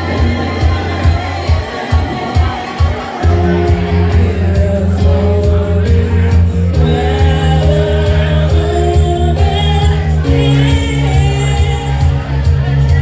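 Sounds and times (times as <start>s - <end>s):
loud backing music: 0.0s - 13.0s
woman singing into microphone: 0.0s - 13.0s.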